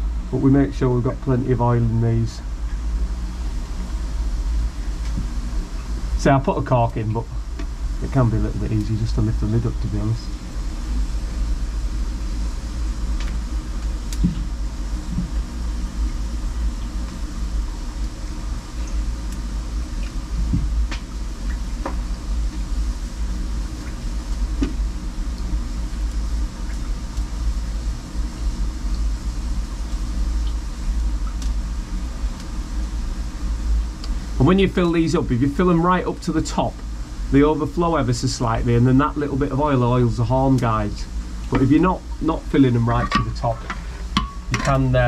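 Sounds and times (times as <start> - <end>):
low rumble and hum: 0.0 - 45.0.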